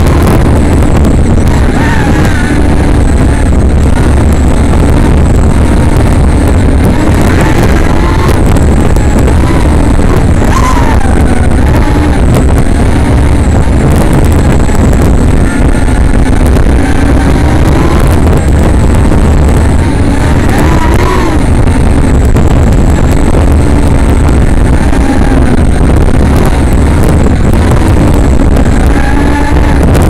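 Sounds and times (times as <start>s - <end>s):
drone motors whining: 0.0s - 30.0s
wind rumble on microphone: 0.0s - 30.0s.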